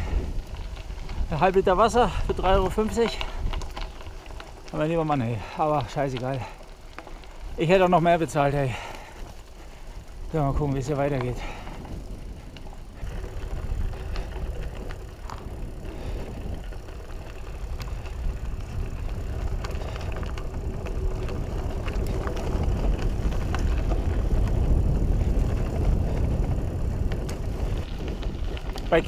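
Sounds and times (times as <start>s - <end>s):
bike clicks and rattles: 0.0s - 29.0s
bike tyres rumbling: 0.0s - 29.0s.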